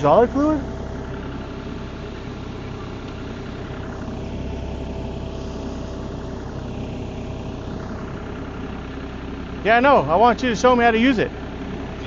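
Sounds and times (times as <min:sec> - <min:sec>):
heavy machine engine idling: 0:00.0 - 0:12.0.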